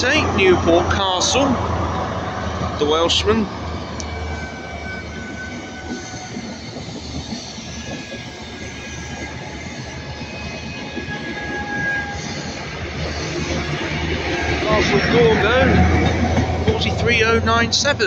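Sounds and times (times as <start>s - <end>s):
train coaches rumbling on rails: 0.0s - 18.0s
high-pitched wheel squeals: 2.4s - 18.0s.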